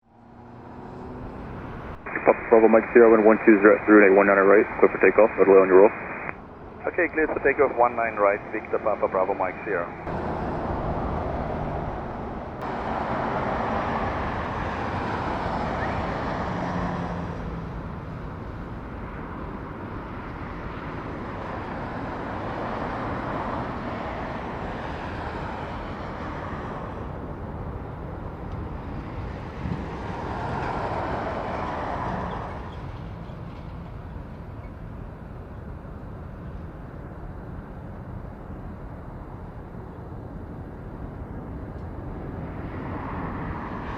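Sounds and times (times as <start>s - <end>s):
jet engines at takeoff thrust: 0.9s - 43.9s.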